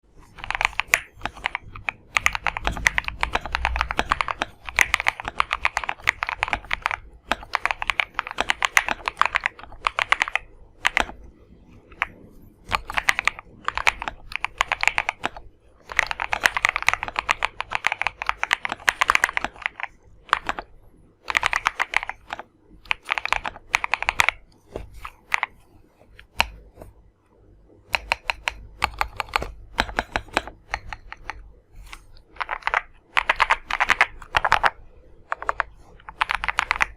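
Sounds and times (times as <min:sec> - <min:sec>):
mechanical keyboard typing: 0:00.2 - 0:25.6, 0:27.9 - 0:36.9.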